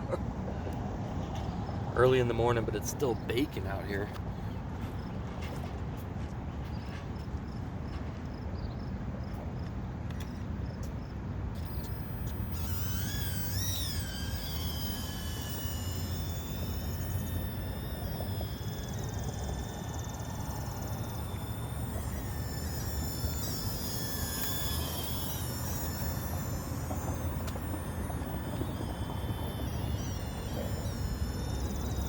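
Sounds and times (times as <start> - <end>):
toy drone motors whining: 0.0 - 5.6, 11.5 - 32.0.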